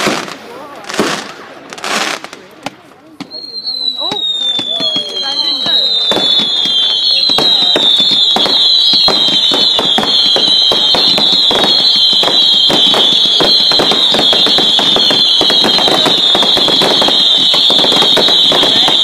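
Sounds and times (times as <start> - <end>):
fireworks crackling and popping: 0.0 - 19.0
whistling fireworks: 3.2 - 19.0.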